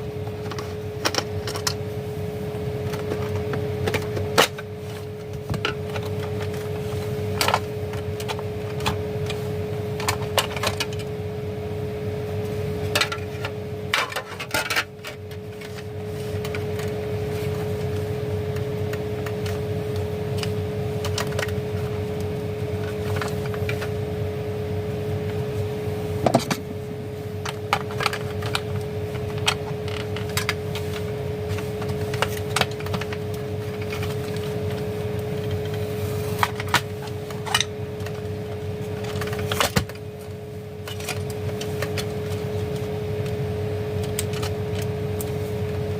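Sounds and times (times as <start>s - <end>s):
steady background hum: 0.0s - 45.9s.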